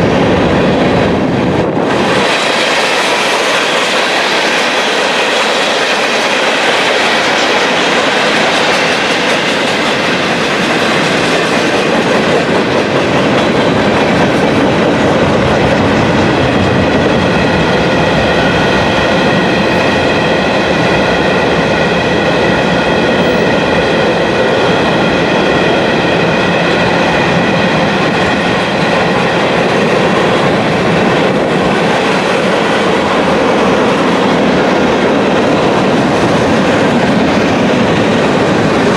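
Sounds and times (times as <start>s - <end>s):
train wheels clickety-clack: 0.0s - 38.9s
high tones from train wheels: 2.0s - 38.9s.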